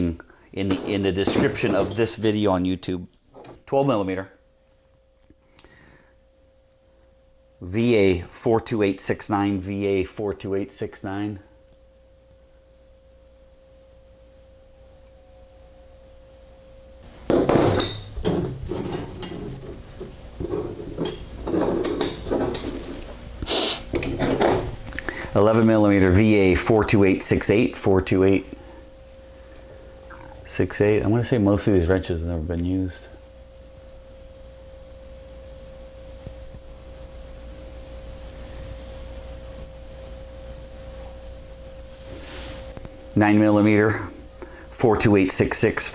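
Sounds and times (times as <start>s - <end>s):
faint steady tone: 0.0s - 18.4s, 24.0s - 45.9s
low hum: 0.0s - 45.9s.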